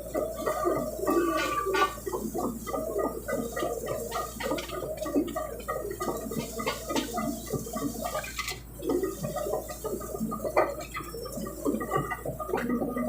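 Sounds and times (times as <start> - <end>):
excavator churning: 0.0 - 13.0.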